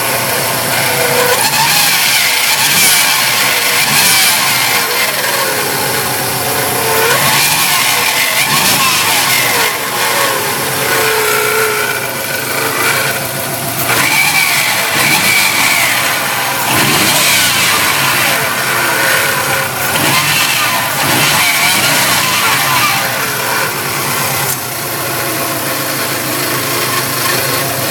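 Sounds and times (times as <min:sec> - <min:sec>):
car engine running: 0:00.0 - 0:27.9
whining tones: 0:00.0 - 0:27.9.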